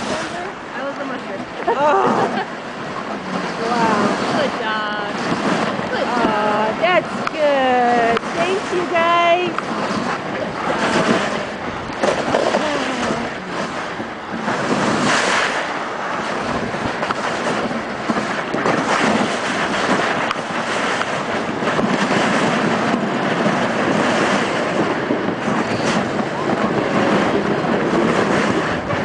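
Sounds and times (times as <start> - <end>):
sled runners sliding over snow: 0.0 - 29.0
wind on microphone: 0.0 - 29.0.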